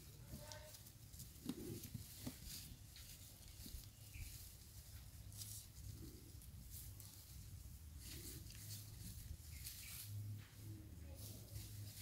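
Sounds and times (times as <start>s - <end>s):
faint clicks and rustles: 0.0s - 12.0s.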